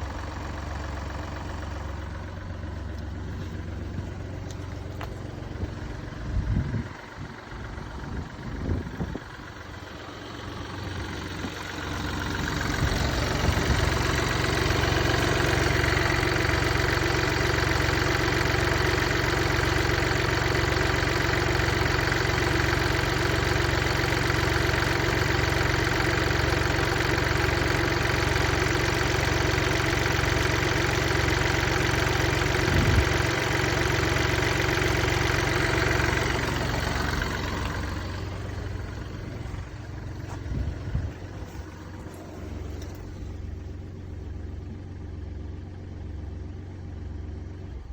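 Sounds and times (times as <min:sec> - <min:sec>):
diesel engine with rhythmic knock: 0:00.0 - 0:47.9.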